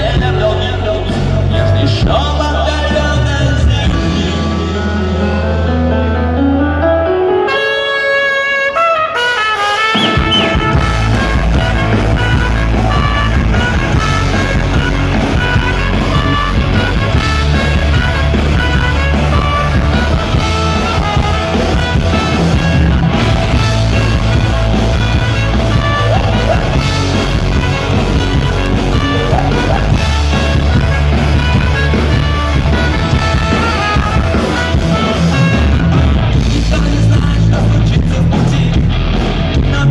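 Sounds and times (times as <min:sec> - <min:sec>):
drums: 0:00.0 - 0:06.6, 0:07.6 - 0:39.9
brass melody: 0:00.0 - 0:38.0
bass guitar: 0:00.0 - 0:39.9.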